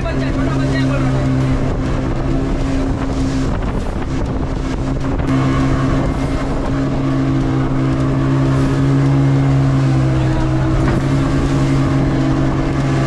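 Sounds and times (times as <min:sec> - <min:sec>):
boat engine droning: 0:00.0 - 0:13.0
water rushing along hull: 0:00.0 - 0:13.0
wind on microphone: 0:00.0 - 0:13.0.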